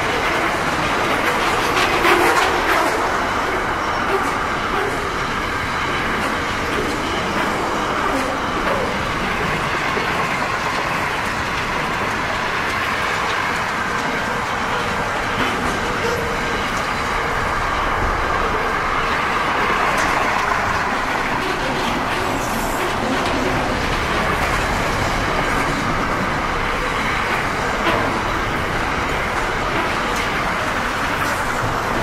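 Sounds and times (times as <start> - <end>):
freight train wheels rumbling on rail: 0.0 - 32.0
sharp clicks of train wheels: 0.0 - 32.0.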